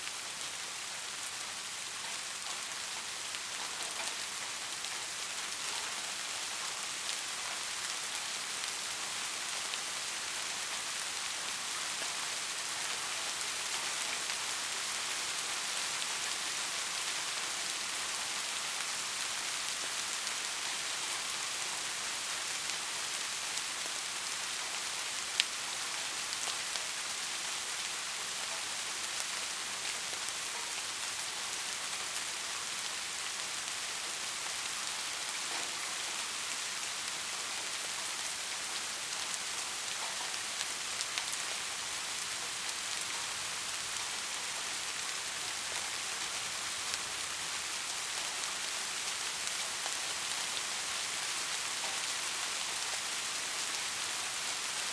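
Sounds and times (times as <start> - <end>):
soft rain falling: 0.0 - 54.9.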